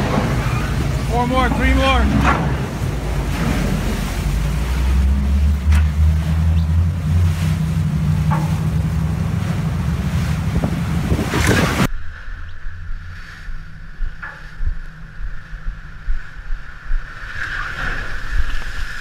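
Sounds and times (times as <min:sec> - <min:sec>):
boat engines rumbling: 0:00.0 - 0:17.3
sea noise: 0:00.0 - 0:19.0
wind buffeting microphone: 0:00.0 - 0:19.0.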